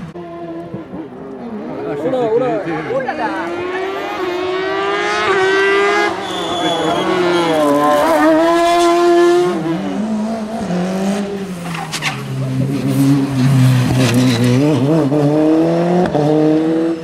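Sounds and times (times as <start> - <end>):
racing car engines high revs: 0.0 - 17.0
racing car engine accelerating: 0.1 - 11.6, 12.3 - 17.0.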